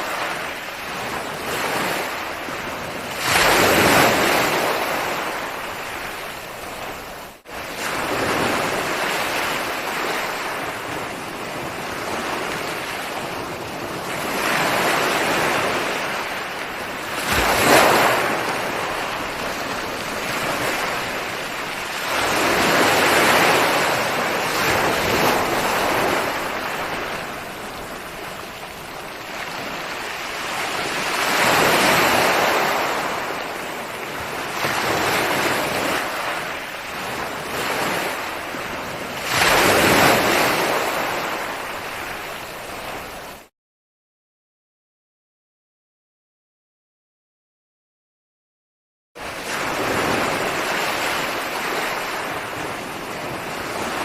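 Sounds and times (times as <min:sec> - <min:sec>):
ocean waves breaking on shore: 0:00.0 - 0:43.5, 0:49.2 - 0:54.0.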